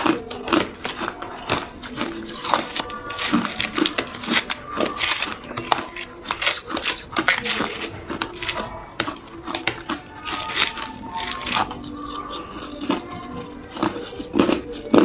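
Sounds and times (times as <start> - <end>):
ice cubes crunching in teeth: 0.0 - 15.0.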